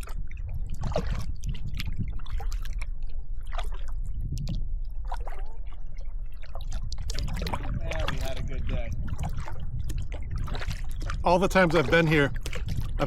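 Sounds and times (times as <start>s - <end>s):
low rumble: 0.0s - 11.7s
paddle strokes splashing water: 0.0s - 13.0s.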